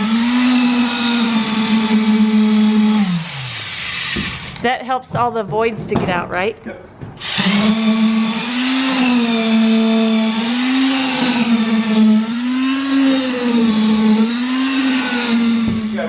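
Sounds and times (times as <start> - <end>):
concrete vibrator motor whine: 0.0 - 4.7, 6.9 - 16.0.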